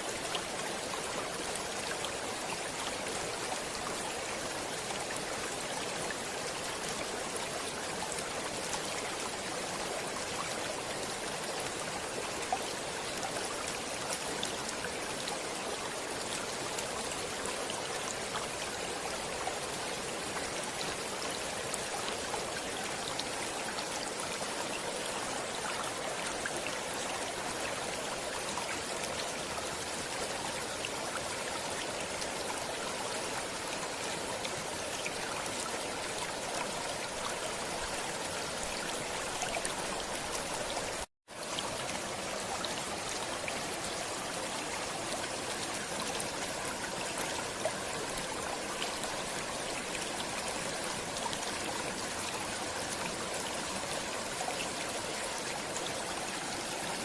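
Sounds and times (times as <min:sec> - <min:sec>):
stream flowing and babbling: 0:00.0 - 0:57.0.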